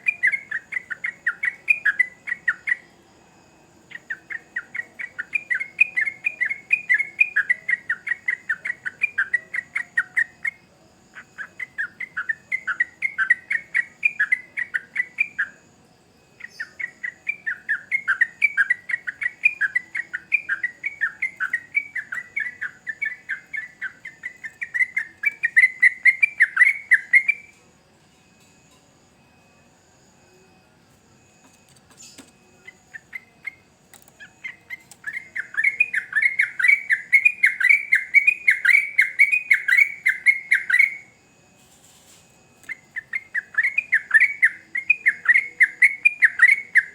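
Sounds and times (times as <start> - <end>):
bird chattering song: 0.0 - 2.9, 3.9 - 15.6, 16.4 - 27.5, 31.9 - 41.1, 42.6 - 46.9.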